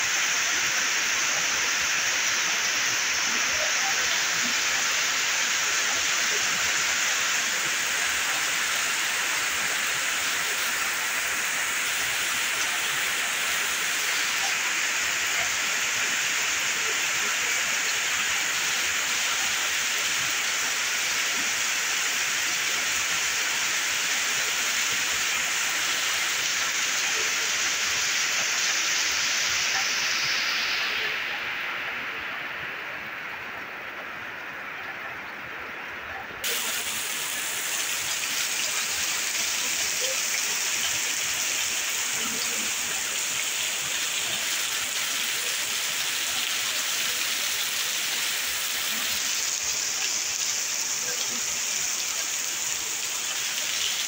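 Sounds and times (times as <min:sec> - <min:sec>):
heavy rain on metal roofs: 0:00.0 - 0:54.0.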